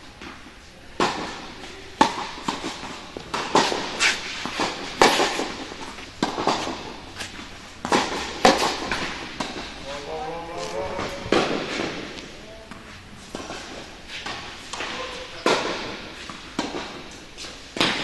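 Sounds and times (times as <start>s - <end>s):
tennis balls bouncing on court: 0.2s - 18.0s
tennis balls struck by racquets: 0.2s - 18.0s.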